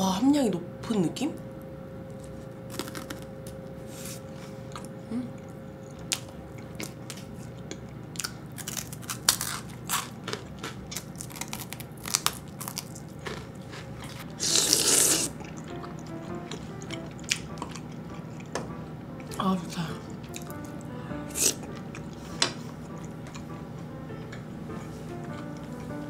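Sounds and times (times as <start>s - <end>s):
close-miked chewing: 4.6s - 26.0s.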